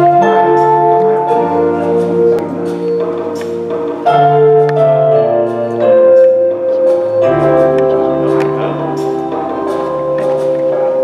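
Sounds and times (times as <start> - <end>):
instrumental music sustained chords: 0.0 - 11.0.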